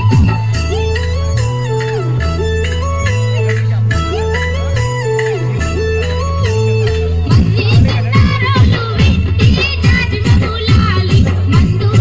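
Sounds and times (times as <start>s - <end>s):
instrumental dance music: 0.0s - 12.0s.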